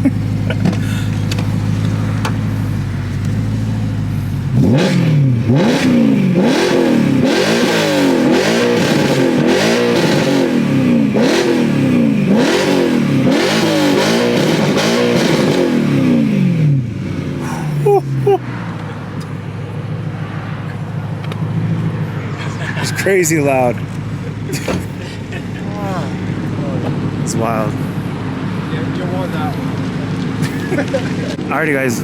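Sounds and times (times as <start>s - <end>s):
loud car engine revving: 0.0s - 32.0s.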